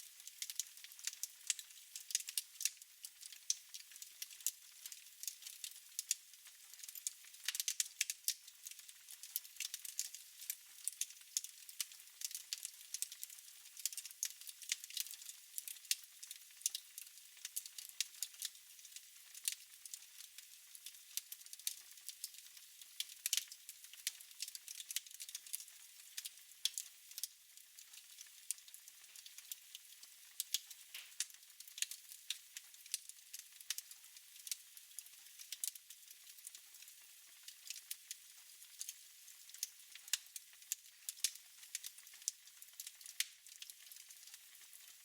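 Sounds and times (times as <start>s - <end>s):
wood fire crackling: 0.2s - 6.1s, 6.8s - 18.6s, 19.4s - 36.8s, 37.6s - 37.9s, 38.8s - 44.9s.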